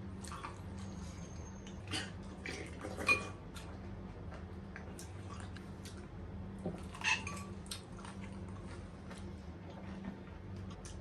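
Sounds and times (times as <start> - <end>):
chewing mouth noises: 0.0 - 11.0
steady low hum: 0.0 - 11.0.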